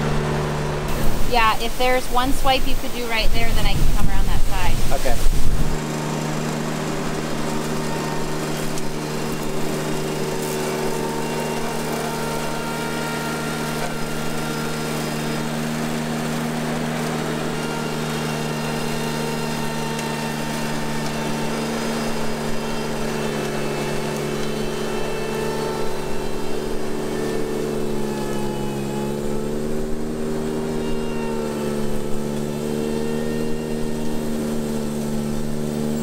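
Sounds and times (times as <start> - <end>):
mower cutting brush: 0.0 - 36.0
tractor engine running: 0.0 - 36.0.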